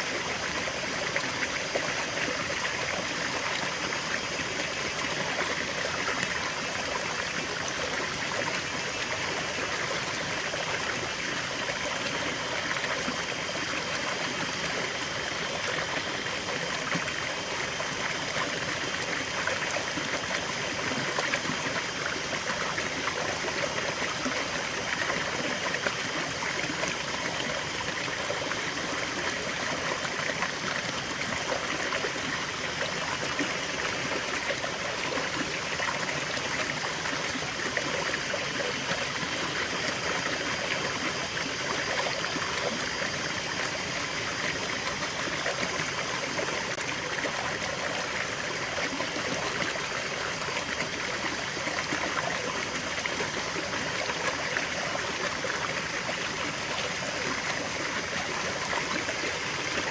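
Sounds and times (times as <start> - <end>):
stream water babbling over stones: 0.0 - 59.9.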